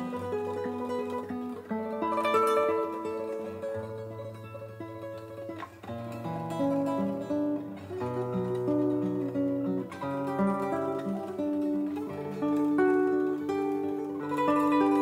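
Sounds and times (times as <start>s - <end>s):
solo acoustic guitar music: 0.0s - 15.0s.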